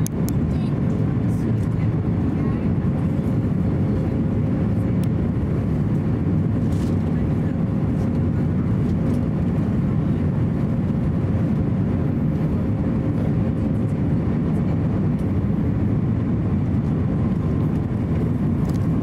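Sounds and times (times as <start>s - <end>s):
airflow over fuselage: 0.0s - 19.0s
airplane cabin engine noise: 0.0s - 19.0s.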